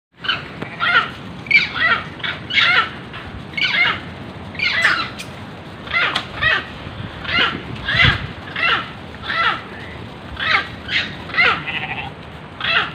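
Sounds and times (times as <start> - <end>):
monkey shrieking: 0.2 - 3.0, 3.6 - 5.2, 5.9 - 9.7, 10.4 - 12.9.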